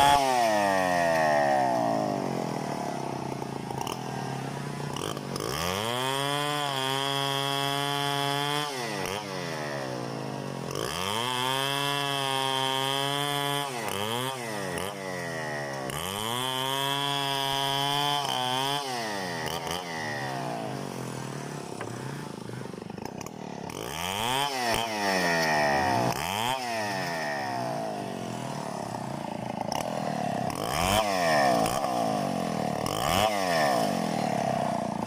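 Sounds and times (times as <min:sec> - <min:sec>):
chainsaw revving and idling: 0:00.0 - 0:35.0.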